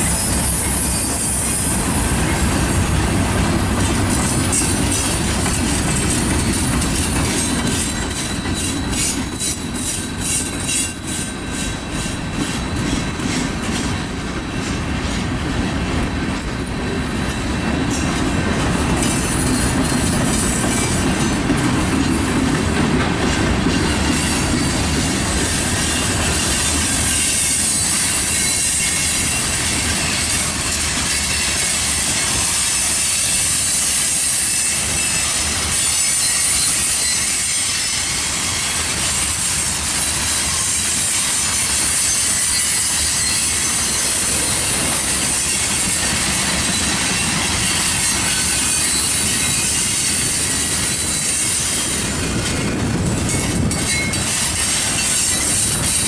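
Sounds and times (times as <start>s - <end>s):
steel wheels rumbling on rails: 0.0s - 56.0s.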